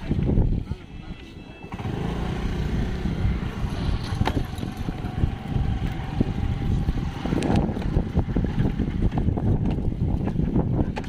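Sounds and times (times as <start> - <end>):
wind buffeting microphone: 0.0 - 1.1, 1.8 - 11.0
scooter engine running: 1.6 - 11.0.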